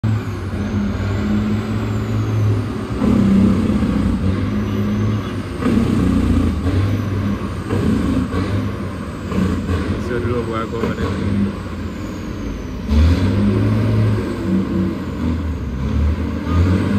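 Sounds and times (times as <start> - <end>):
truck diesel engine droning: 0.0 - 16.9.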